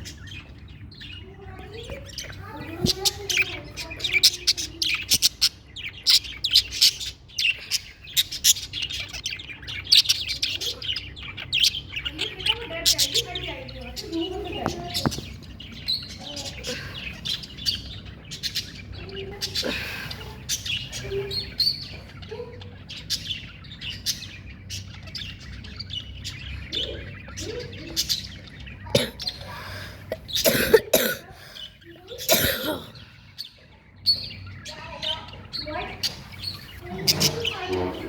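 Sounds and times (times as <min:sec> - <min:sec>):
budgerigars chirping: 0:00.0 - 0:38.0
harsh bird calls: 0:00.0 - 0:38.0.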